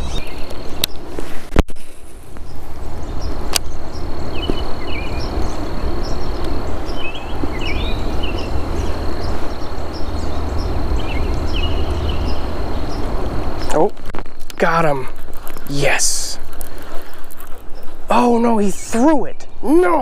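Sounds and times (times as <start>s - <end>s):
bird chirps: 0.0s - 1.0s, 2.4s - 20.0s
wind on microphone: 0.0s - 18.1s
high insect whine: 1.8s - 19.8s.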